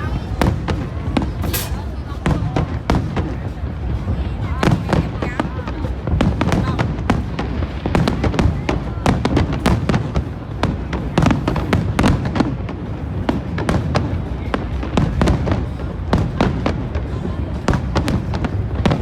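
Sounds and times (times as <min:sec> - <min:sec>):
fireworks bangs and cracks: 0:00.0 - 0:19.0
low rumble of fireworks bursts: 0:00.0 - 0:19.0.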